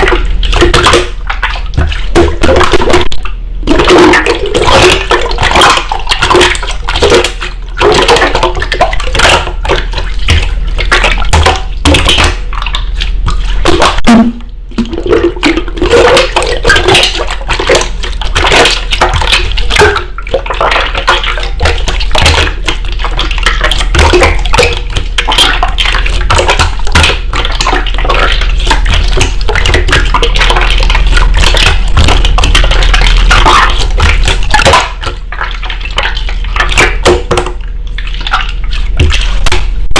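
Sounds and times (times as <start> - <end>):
slime squelching and crackling: 0.0 - 39.9.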